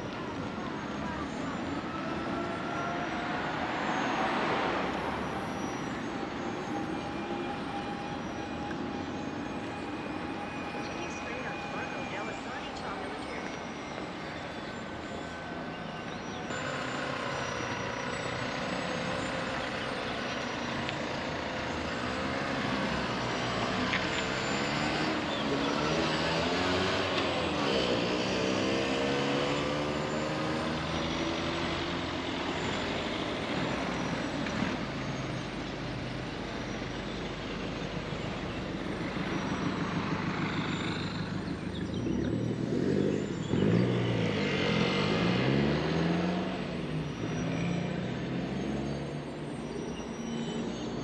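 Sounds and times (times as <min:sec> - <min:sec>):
steady traffic noise: 0:00.0 - 0:51.0
vehicles driving past: 0:00.0 - 0:51.0.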